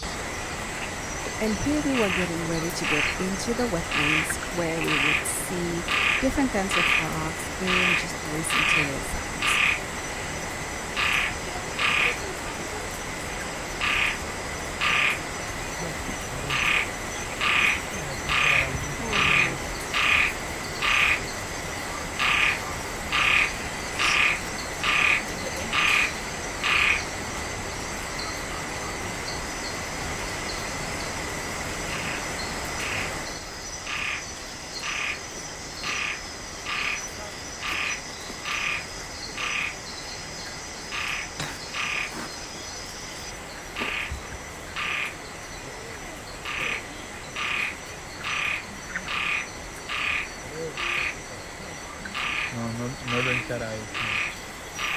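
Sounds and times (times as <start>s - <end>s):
frog calling: 0.0s - 54.9s
high-pitched insect trilling: 0.0s - 54.9s.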